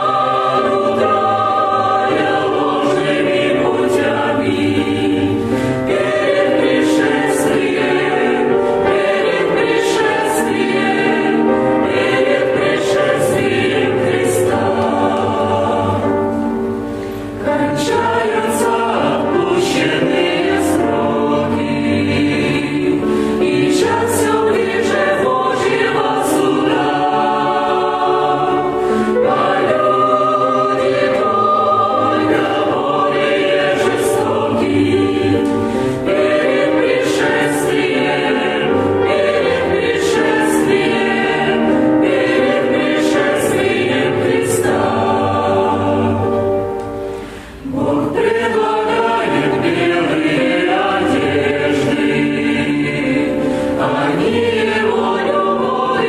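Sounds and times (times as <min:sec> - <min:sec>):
church choir singing a hymn: 0:00.0 - 0:56.0.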